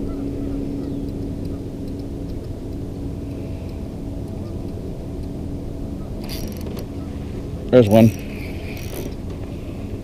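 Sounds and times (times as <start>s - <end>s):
boat motor droning: 0.0s - 10.0s.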